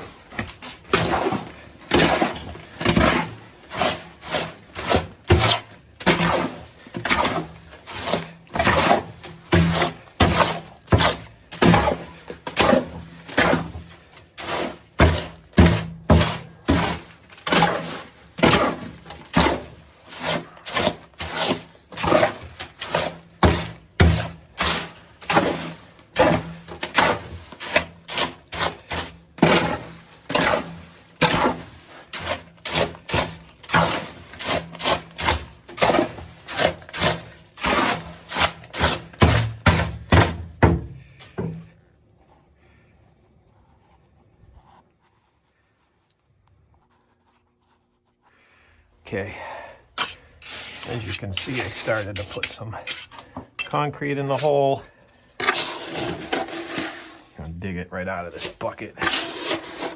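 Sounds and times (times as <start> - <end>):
scraping knocking of concrete mixing: 0.0 - 41.8, 49.0 - 59.9.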